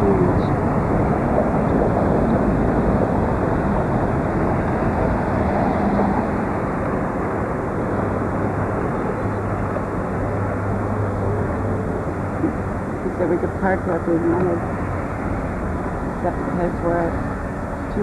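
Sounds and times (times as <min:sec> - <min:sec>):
road noise inside cab: 0:00.0 - 0:18.0
truck engine hum: 0:00.0 - 0:18.0.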